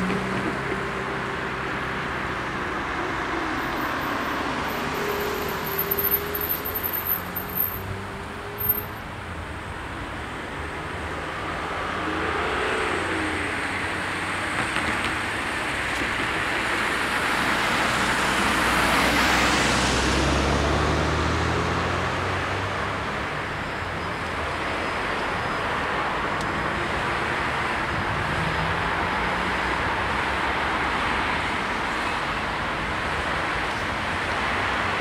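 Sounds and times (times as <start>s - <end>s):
steady traffic hum: 0.0s - 35.0s.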